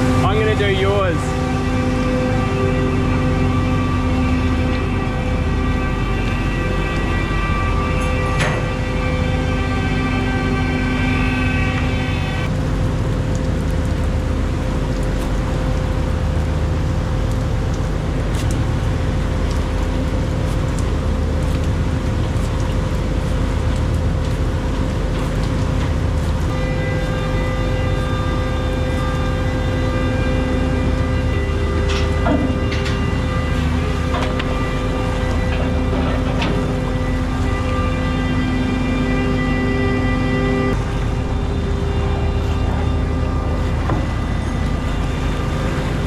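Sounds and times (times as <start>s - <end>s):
diesel engine droning: 0.0s - 46.0s
high steady whine: 0.0s - 46.0s.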